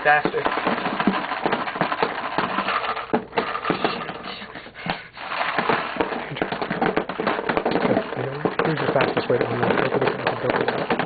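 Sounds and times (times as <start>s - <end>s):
paintballs clattering into a box: 0.0s - 11.0s.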